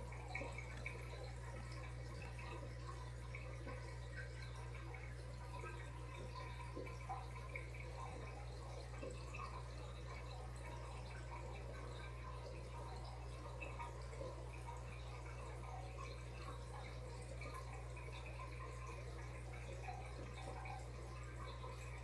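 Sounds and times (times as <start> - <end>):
constant low hum: 0.0 - 22.0
water trickling and dripping: 0.0 - 22.0.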